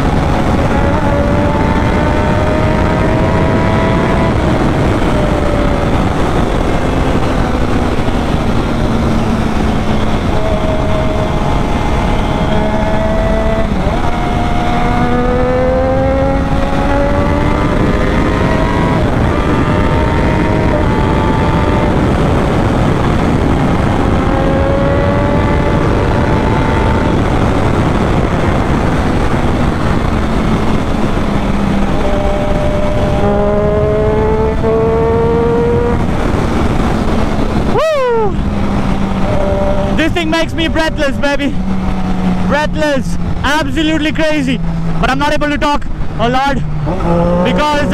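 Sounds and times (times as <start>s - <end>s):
motorcycle engine accelerating: 0.0s - 47.9s
wind rush on microphone: 0.0s - 47.9s.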